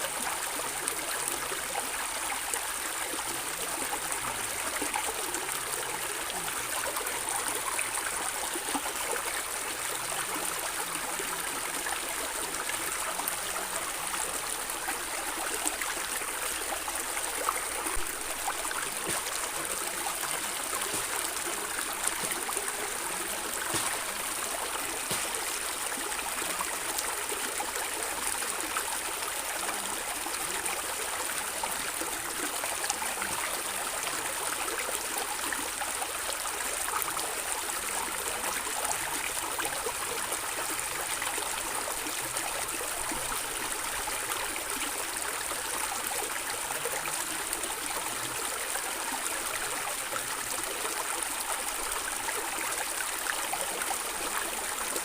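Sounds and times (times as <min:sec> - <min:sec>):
stream gurgling over stones: 0:00.0 - 0:55.0.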